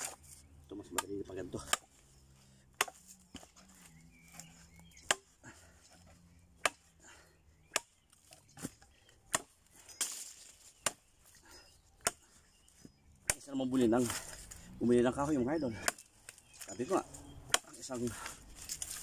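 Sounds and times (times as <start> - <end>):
machete chopping wood: 0.0 - 2.1, 2.7 - 7.0, 7.6 - 11.4, 12.0 - 14.6, 15.8 - 16.8, 17.4 - 19.0.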